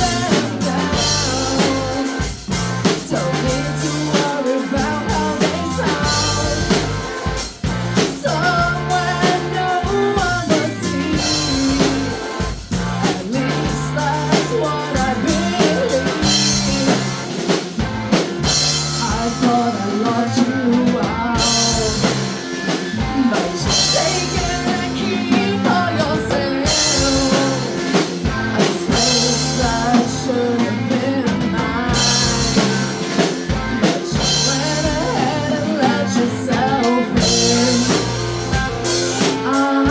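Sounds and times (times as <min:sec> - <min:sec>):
person singing lead vocal: 0:00.0 - 0:39.9
rock band playing: 0:00.0 - 0:39.9.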